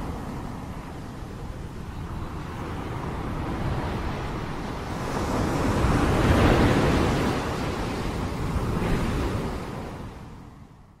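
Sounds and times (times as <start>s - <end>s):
ocean waves rushing: 0.0s - 10.6s.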